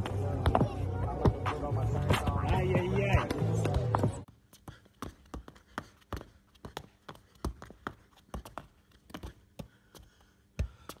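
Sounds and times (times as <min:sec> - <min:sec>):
football taps on feet: 0:02.1 - 0:11.0.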